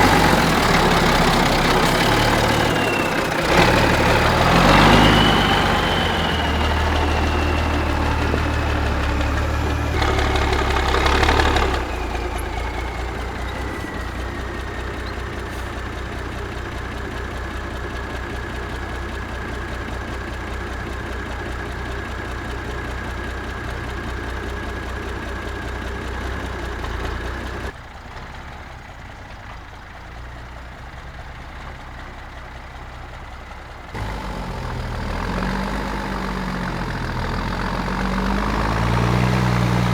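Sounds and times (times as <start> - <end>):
diesel truck engine revving: 0.0 - 27.8, 33.9 - 39.9.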